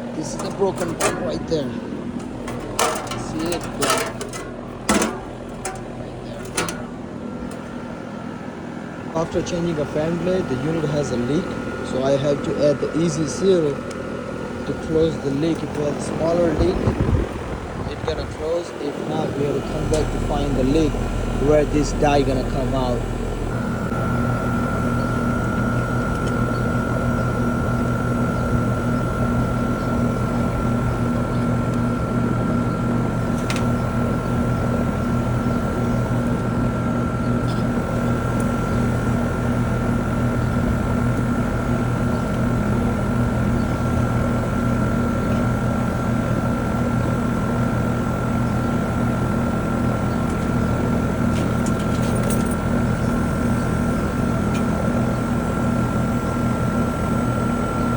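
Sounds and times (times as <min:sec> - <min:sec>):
air conditioner unit humming: 0:00.0 - 0:57.9
steady high whine: 0:00.0 - 0:57.9.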